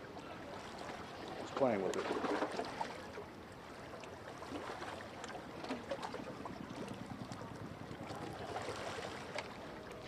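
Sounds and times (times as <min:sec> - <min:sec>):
small waves lapping on rocks: 0:00.0 - 0:10.0.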